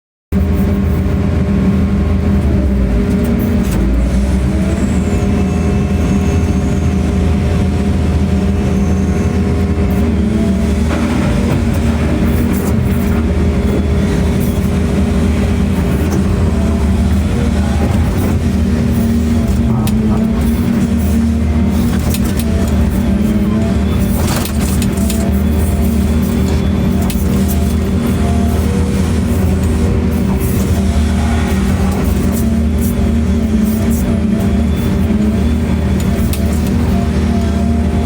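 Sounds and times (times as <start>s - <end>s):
large engine humming: 0.4s - 38.0s.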